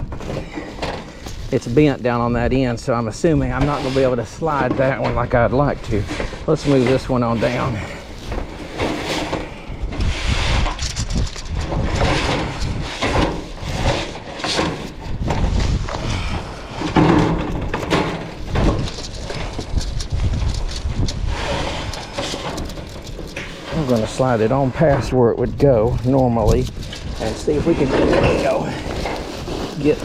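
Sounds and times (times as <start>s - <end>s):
wind buffeting microphone: 0.0s - 14.2s, 14.8s - 30.0s
sheet metal scraping and knocking: 3.1s - 30.0s.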